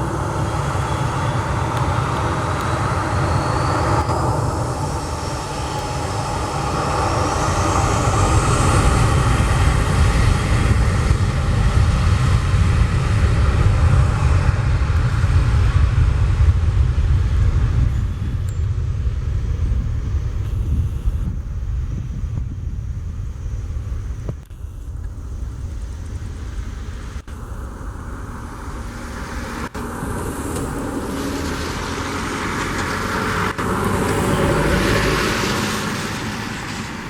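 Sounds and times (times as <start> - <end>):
jet engine rumble: 0.0 - 37.0
jet engine whine: 0.0 - 37.0.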